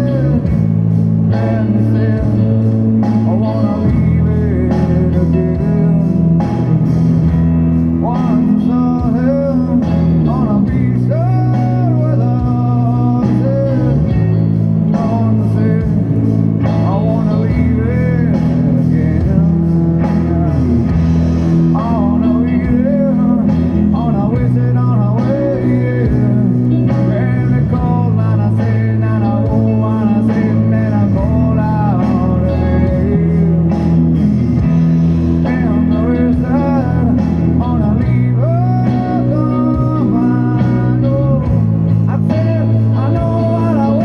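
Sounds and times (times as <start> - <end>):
person singing: 0.0 - 44.0
rock music with guitar: 0.0 - 44.0
sustained bass notes: 0.0 - 44.0.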